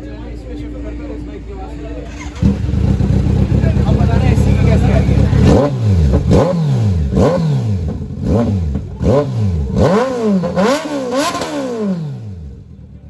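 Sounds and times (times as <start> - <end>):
motorcycle engine revving: 2.1 - 13.0.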